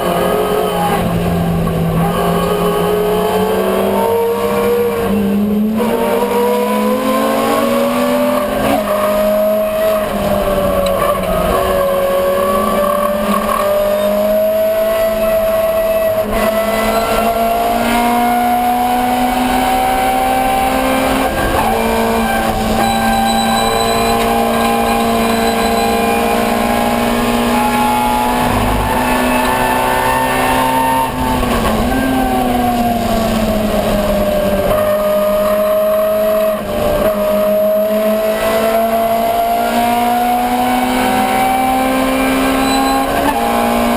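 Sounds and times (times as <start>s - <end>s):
car engine revving hard: 0.0s - 43.9s.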